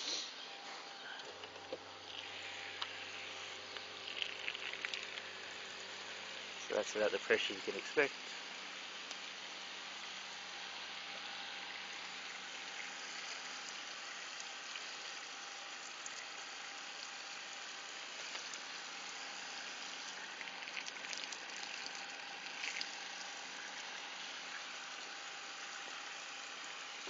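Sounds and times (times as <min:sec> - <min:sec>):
water pump humming: 0:00.0 - 0:27.0
shower water spraying: 0:02.1 - 0:27.0.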